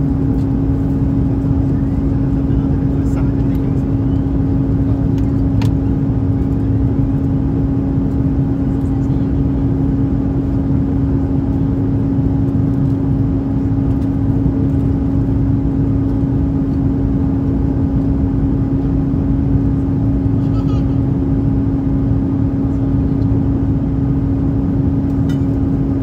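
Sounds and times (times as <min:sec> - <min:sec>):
aircraft cabin rumble: 0:00.0 - 0:26.0
steady hum: 0:00.0 - 0:26.0.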